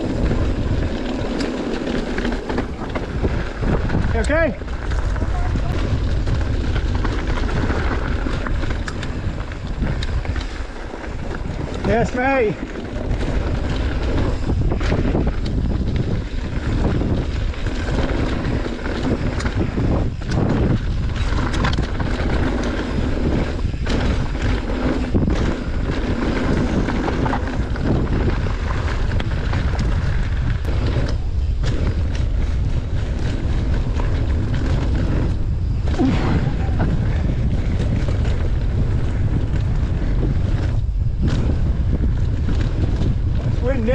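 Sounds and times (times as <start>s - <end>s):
bike knocking and rattling: 0.0s - 43.9s
bike tyre noise: 0.0s - 43.9s
wind rumbling on microphone: 0.0s - 43.9s.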